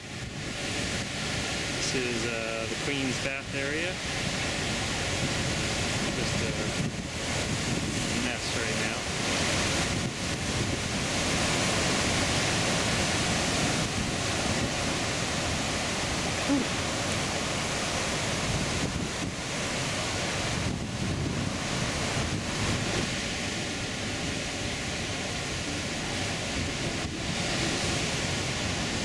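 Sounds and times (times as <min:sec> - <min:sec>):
surf breaking on rocks: 0:00.0 - 0:29.0.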